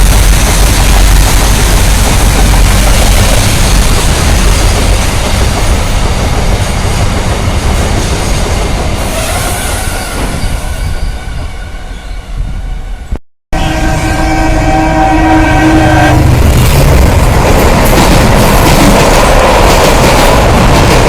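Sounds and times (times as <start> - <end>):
train wheels rumbling on rails: 0.0 - 11.7, 13.7 - 21.0.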